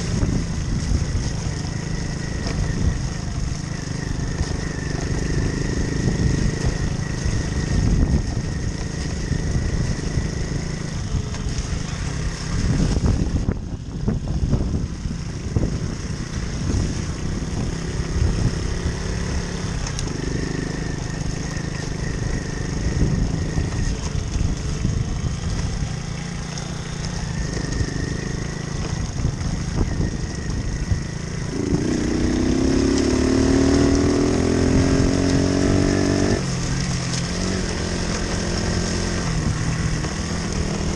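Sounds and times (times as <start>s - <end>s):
moped engine accelerating: 0.0s - 40.9s.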